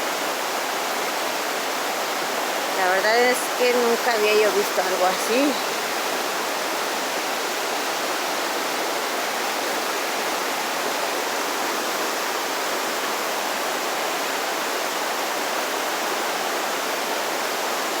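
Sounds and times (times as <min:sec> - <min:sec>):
roar of rushing river water: 0:00.0 - 0:18.0.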